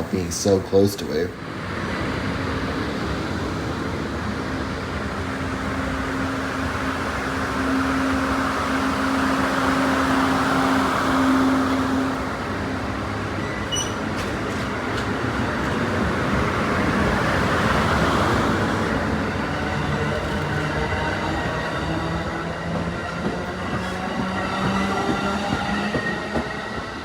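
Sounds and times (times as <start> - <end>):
train cars rumbling past: 0.0 - 27.0.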